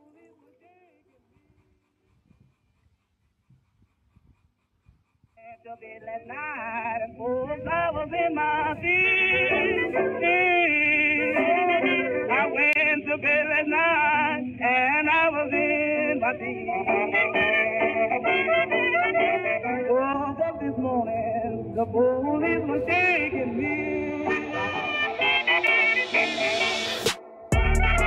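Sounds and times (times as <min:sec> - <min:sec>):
music with singing voice: 0:00.0 - 0:01.6, 0:05.4 - 0:28.0.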